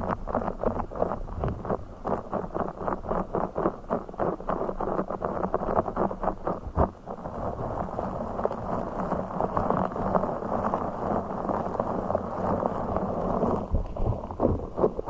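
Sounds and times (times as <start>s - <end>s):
close rubbing and crackling: 0.0s - 15.0s
small ticks: 0.0s - 15.0s.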